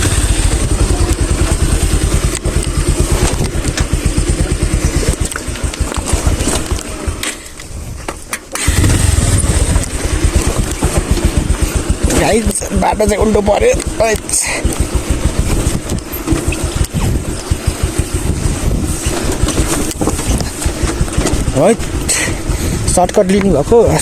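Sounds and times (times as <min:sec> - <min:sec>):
motorcycle engine chugging: 0:00.0 - 0:24.0.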